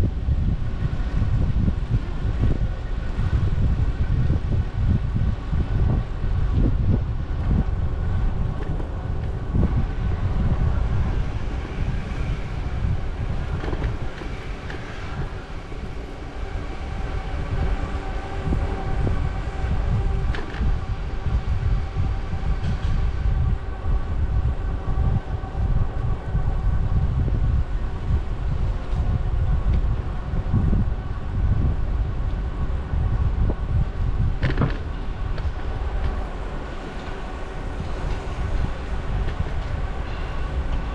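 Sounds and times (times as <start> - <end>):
steady mechanical hum: 0.0 - 40.9
wind buffeting microphone: 0.0 - 40.9.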